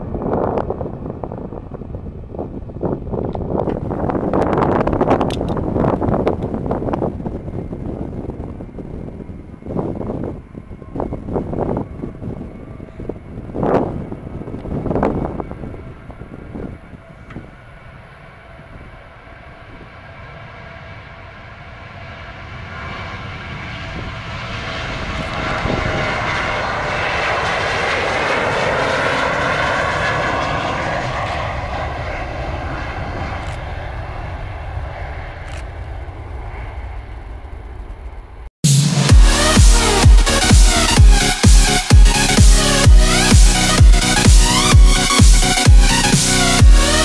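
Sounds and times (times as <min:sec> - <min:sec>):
jet airliner taking off: 0:00.0 - 0:47.0.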